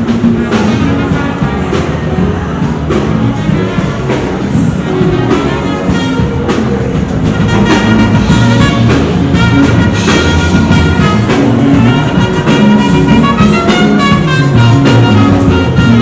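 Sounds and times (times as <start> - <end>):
drum beat: 0.0 - 16.0
jazzy brass music: 0.0 - 16.0.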